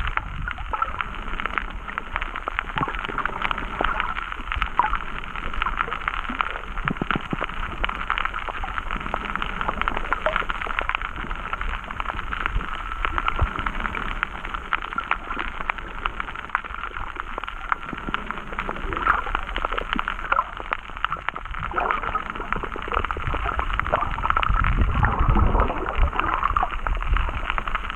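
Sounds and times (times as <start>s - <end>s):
crackle of tiny underwater clicks: 0.0s - 27.9s
muffled underwater hiss: 0.0s - 27.9s.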